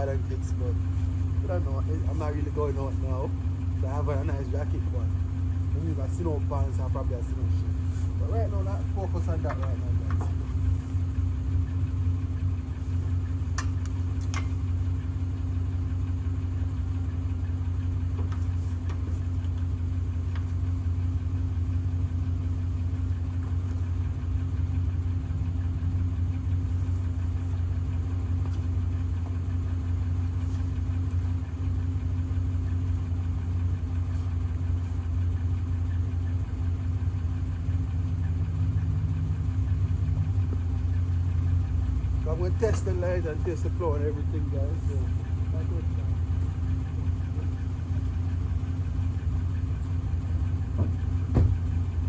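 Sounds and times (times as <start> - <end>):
truck engine idling: 0.0 - 52.0.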